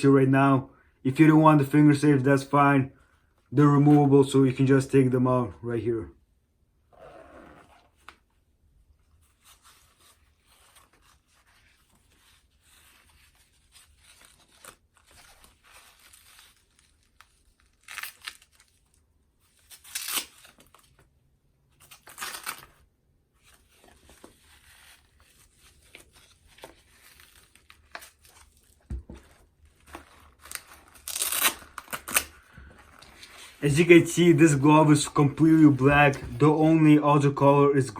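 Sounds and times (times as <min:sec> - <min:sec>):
faint rustling of glove: 0:06.8 - 0:37.9.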